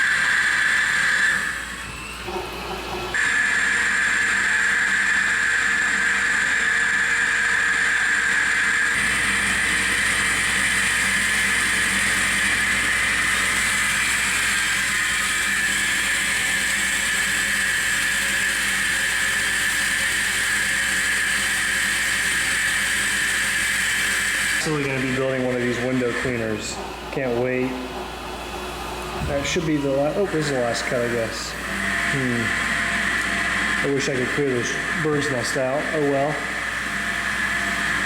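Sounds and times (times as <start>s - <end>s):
lathe machining steel: 0.0s - 38.0s.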